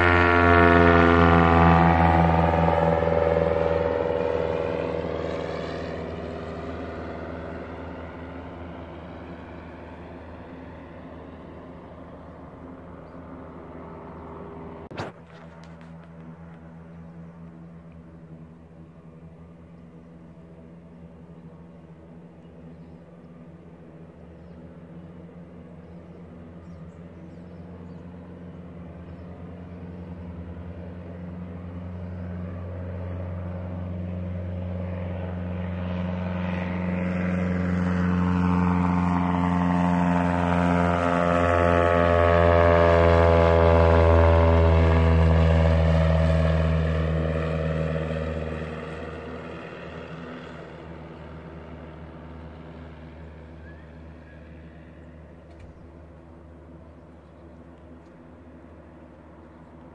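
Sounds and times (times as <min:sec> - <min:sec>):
propeller plane flying past: 0:00.0 - 0:59.9.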